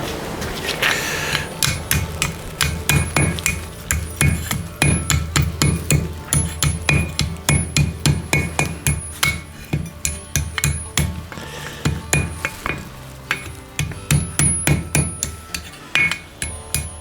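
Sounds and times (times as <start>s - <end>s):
hammer striking steel on anvil: 1.3s - 17.0s.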